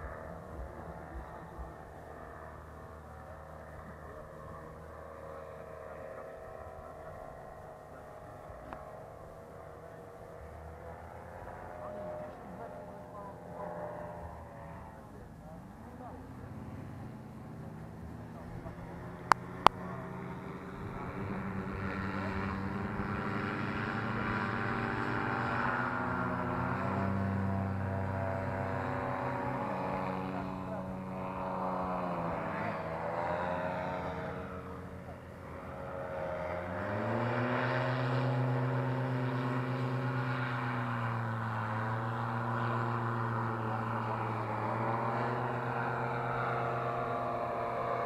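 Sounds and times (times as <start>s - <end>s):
paramotor engine drone: 0.0s - 48.0s.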